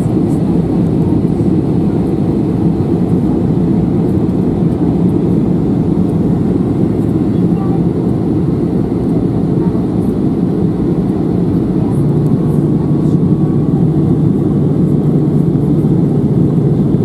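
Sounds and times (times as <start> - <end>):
jet cabin roar: 0.0 - 17.0
low steady hum: 0.0 - 17.0.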